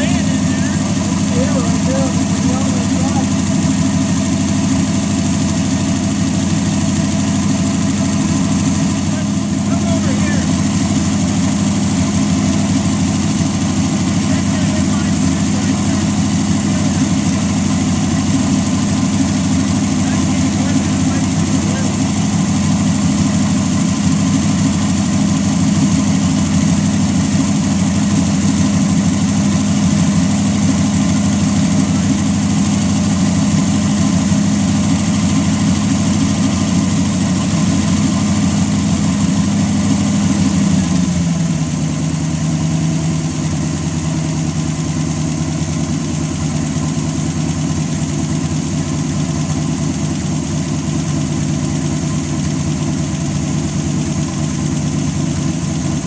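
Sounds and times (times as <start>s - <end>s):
racing engine idling: 0.0s - 56.0s.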